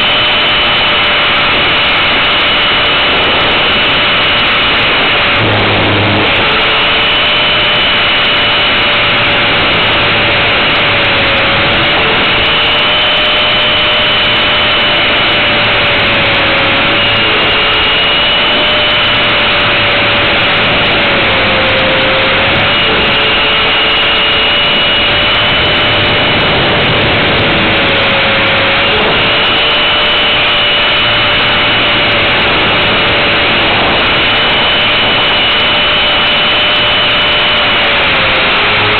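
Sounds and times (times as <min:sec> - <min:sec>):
rc helicopter motor whine: 0:00.0 - 0:38.9
rotor and air rush: 0:00.0 - 0:38.9.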